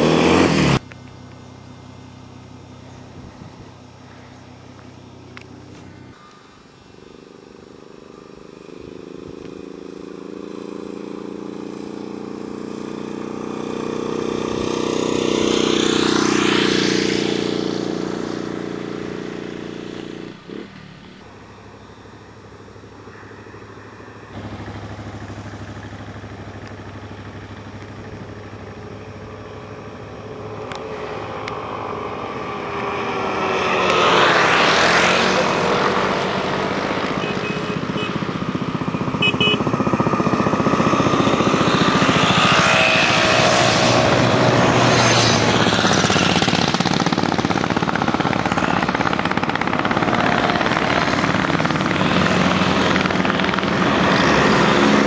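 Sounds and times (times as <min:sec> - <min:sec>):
motorcycles passing: 0:00.0 - 0:55.0.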